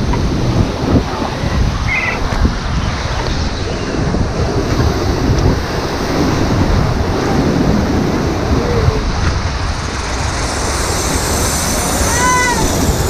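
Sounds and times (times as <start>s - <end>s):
rushing white water: 0.0s - 13.0s
wind on microphone: 0.0s - 13.0s.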